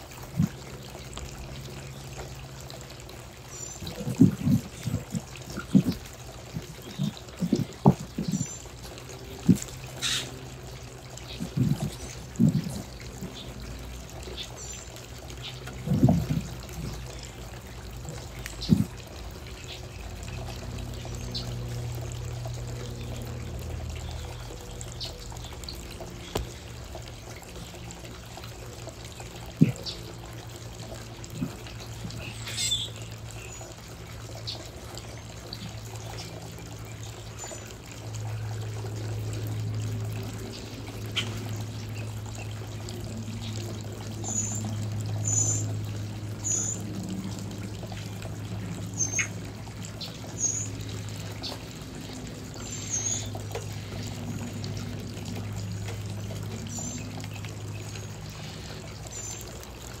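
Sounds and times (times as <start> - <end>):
water trickling: 0.0 - 60.0
birds chirping: 0.1 - 60.0.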